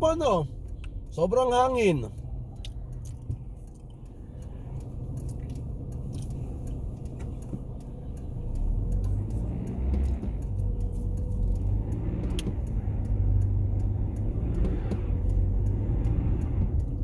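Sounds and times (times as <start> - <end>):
faint ticks: 2.1 - 17.0.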